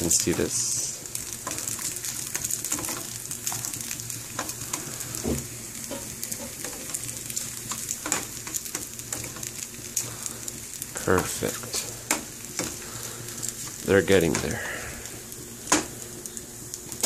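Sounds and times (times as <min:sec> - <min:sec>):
sausage sizzling in frying pan: 0:00.0 - 0:17.0.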